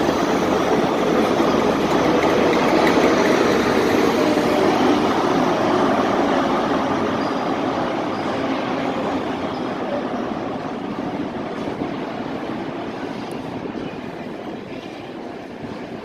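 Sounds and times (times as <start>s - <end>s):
train running: 0.0s - 16.0s.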